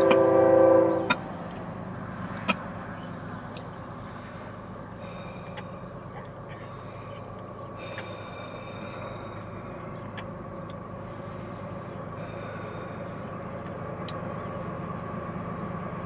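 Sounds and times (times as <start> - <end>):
diesel train rumble: 0.0 - 16.0.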